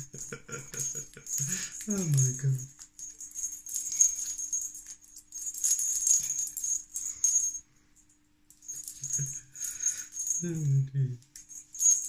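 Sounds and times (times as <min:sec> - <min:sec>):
toy ball rattling: 0:00.0 - 0:07.6, 0:08.5 - 0:10.5, 0:11.2 - 0:12.0.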